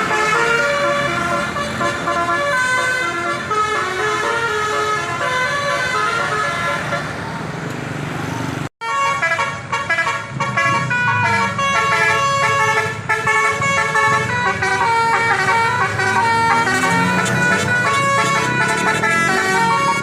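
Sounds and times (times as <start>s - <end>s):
multi-tone bus horn melody: 0.0s - 7.4s, 8.8s - 20.0s.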